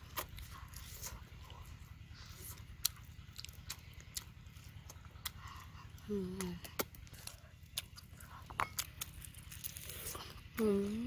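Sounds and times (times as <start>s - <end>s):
person chewing with crunches: 0.0s - 11.0s.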